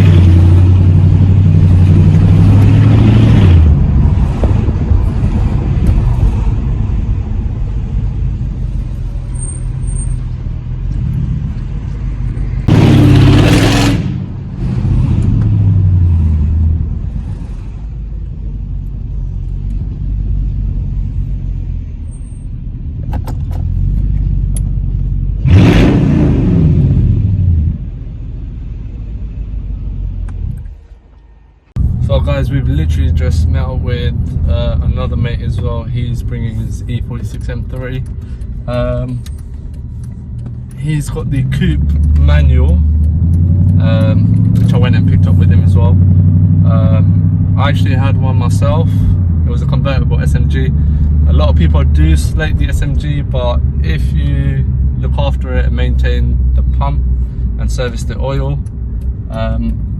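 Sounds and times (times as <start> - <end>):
car engine accelerating: 0.0 - 22.1, 22.9 - 30.8, 31.8 - 59.9.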